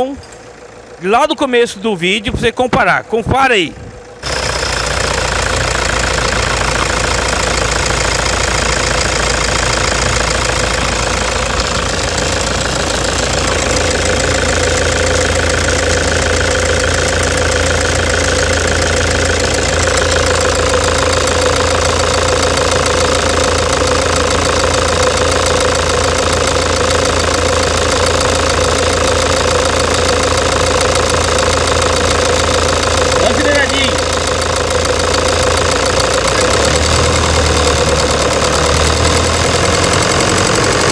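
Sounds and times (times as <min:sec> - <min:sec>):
diesel engine idling: 0:00.0 - 0:40.9
fuel injector knocking: 0:04.2 - 0:40.9.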